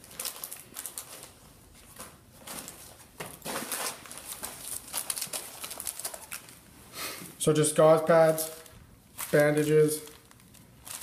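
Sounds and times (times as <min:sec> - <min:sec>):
wrapped gauze crinkling: 0:00.0 - 0:01.9, 0:02.6 - 0:06.7, 0:08.1 - 0:11.0.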